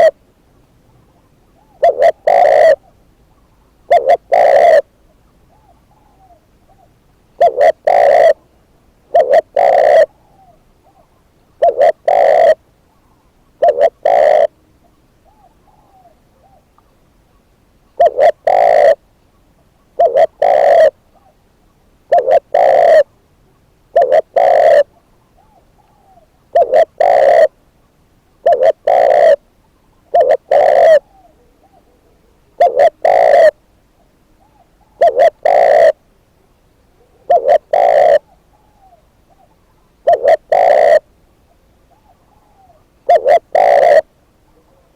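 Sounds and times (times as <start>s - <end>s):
dove cooing: 0.0s - 27.6s, 28.3s - 36.2s, 36.8s - 44.9s
faint distant dove coos: 0.0s - 44.9s.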